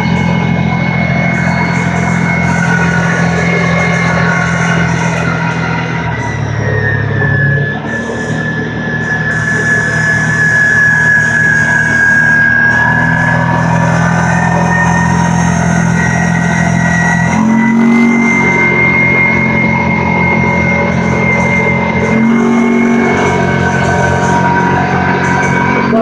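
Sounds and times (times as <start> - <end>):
engine running: 0.0 - 26.0
high whine rising in pitch: 0.0 - 26.0.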